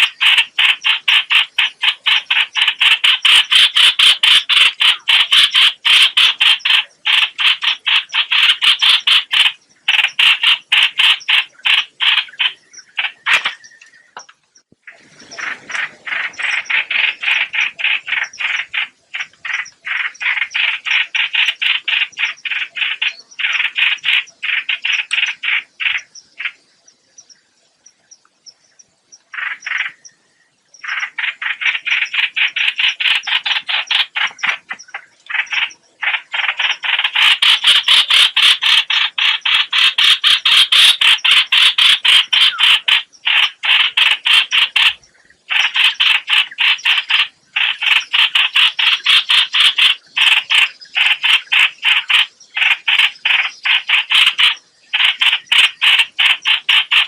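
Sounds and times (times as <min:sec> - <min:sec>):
harsh rattling bird call: 0:00.0 - 0:14.3, 0:14.9 - 0:26.7, 0:28.7 - 0:30.2, 0:30.8 - 0:57.0.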